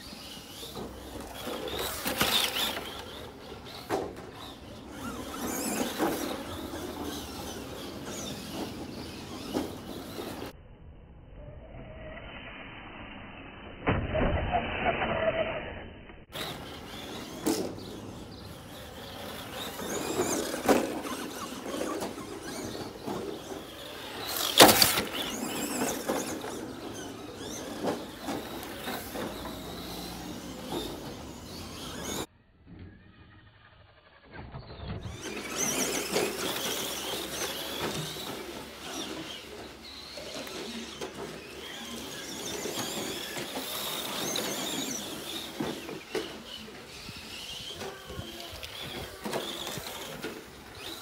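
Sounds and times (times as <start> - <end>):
electric motors whining: 0.0 - 10.5, 16.3 - 51.0
tyres scrabbling over dirt: 0.1 - 10.5, 16.3 - 32.3, 35.0 - 51.0.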